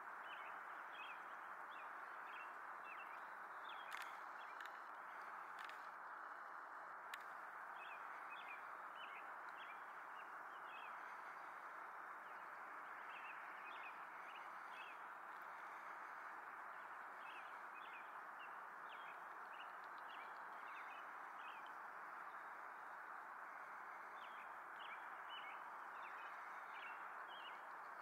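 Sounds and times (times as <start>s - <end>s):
background hiss: 0.0s - 28.0s
small birds chirping: 0.1s - 6.1s, 7.1s - 28.0s.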